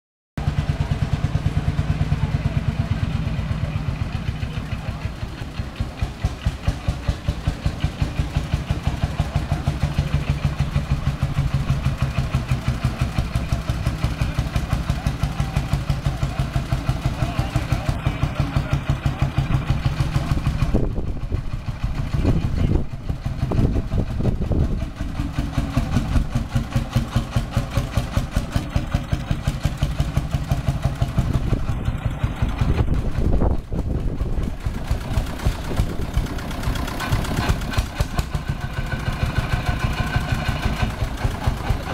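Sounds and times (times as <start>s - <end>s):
diesel tractor engine running: 0.4s - 41.9s.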